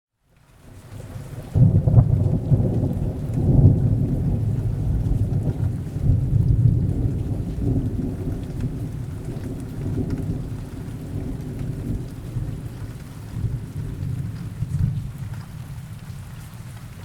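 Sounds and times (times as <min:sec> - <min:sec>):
rain falling: 0:00.2 - 0:17.0
rolling thunder: 0:01.0 - 0:17.0.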